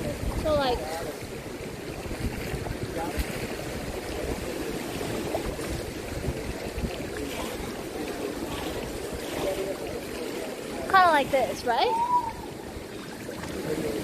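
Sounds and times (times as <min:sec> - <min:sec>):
pool water sloshing: 0:00.0 - 0:14.0
wind buffeting microphone: 0:00.0 - 0:14.0.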